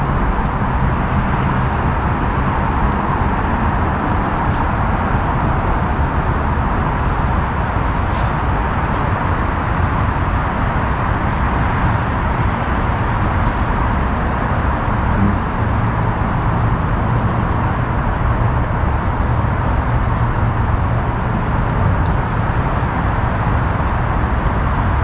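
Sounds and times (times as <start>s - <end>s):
freeway traffic noise: 0.0s - 25.0s.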